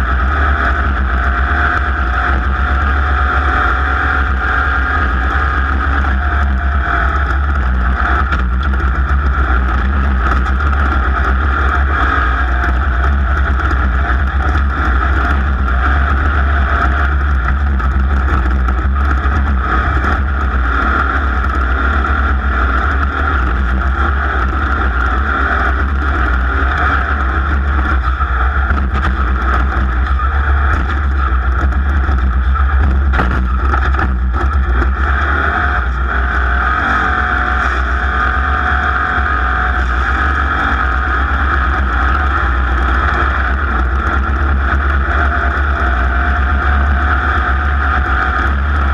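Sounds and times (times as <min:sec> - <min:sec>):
racing engine running hard: 0:00.0 - 0:48.9.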